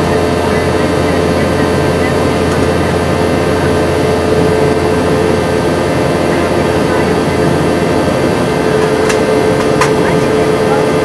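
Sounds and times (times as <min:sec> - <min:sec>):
jet engine rush in cabin: 0:00.0 - 0:11.0.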